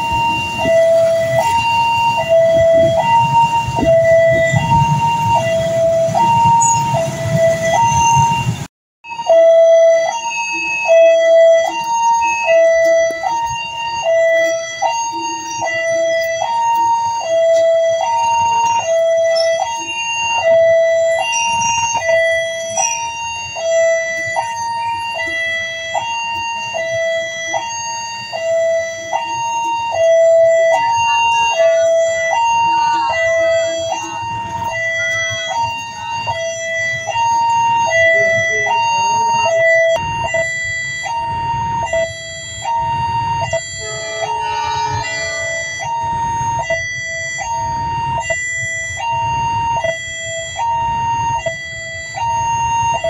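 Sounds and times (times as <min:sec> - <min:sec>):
level crossing two-tone alarm: 0:00.0 - 0:53.0.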